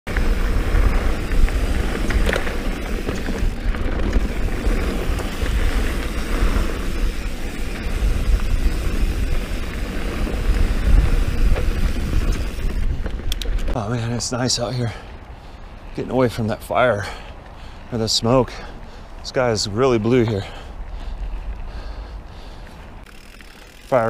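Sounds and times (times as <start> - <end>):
tyre noise on dirt: 0.1 - 16.5, 19.5 - 24.0
wind buffeting microphone: 0.1 - 23.2
bike clicks: 0.1 - 24.0.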